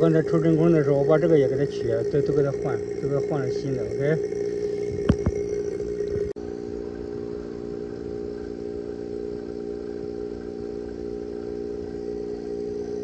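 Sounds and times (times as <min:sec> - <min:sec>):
vacuum pump humming: 0:00.0 - 0:13.0.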